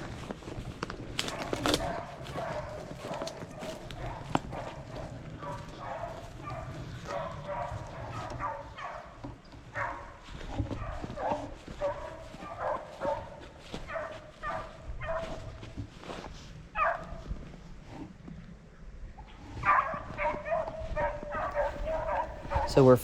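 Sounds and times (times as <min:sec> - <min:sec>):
hounds baying: 0:01.2 - 0:15.7, 0:16.7 - 0:17.3, 0:19.4 - 0:23.0.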